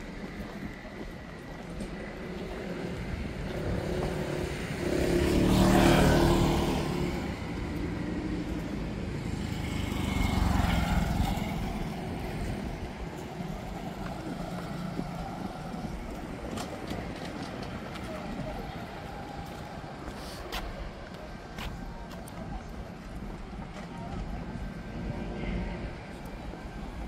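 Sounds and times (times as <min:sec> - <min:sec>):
steady traffic noise: 0:00.0 - 0:27.0
vehicles driving past: 0:00.0 - 0:27.0.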